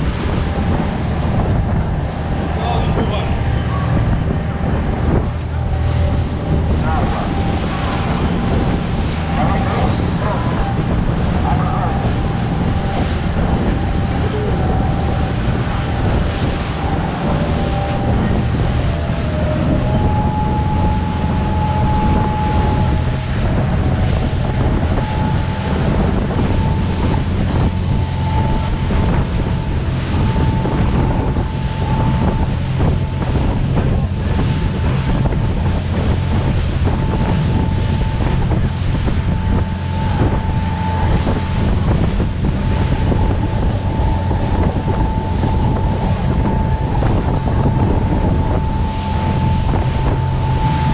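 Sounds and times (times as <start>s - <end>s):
motor boat engine drone: 0.0s - 50.9s
water rushing along hull: 0.0s - 50.9s
wind buffeting microphone: 0.0s - 50.9s.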